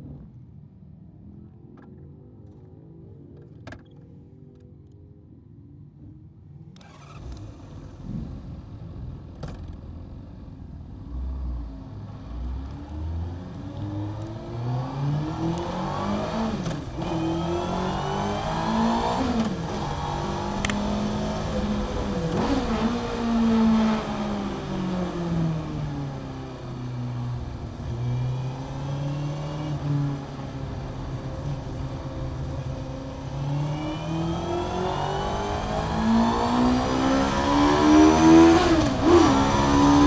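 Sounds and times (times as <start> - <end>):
motorcycle engine accelerating: 6.8 - 40.0.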